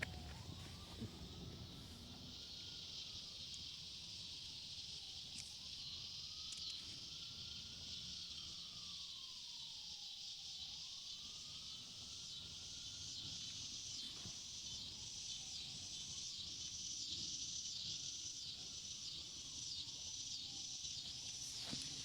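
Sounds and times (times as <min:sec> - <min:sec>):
high buzzing insect chorus: 0:00.0 - 0:22.0.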